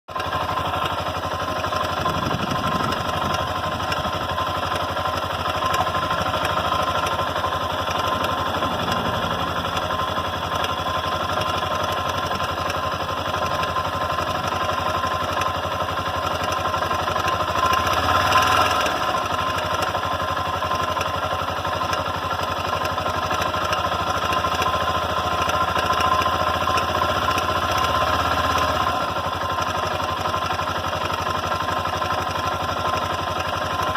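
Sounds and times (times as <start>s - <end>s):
motorcycle engine idling: 0.1s - 33.9s
rapid metallic engine knock: 0.1s - 33.9s.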